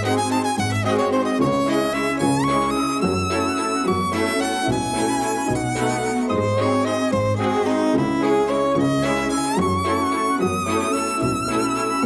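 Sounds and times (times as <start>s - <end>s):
instrumental cartoon music: 0.0s - 12.0s.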